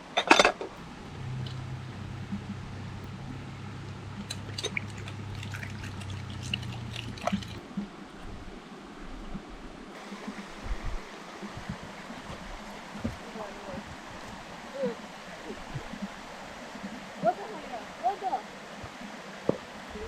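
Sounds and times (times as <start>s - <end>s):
steady low hum: 0.0s - 20.0s
water trickling: 0.0s - 20.0s.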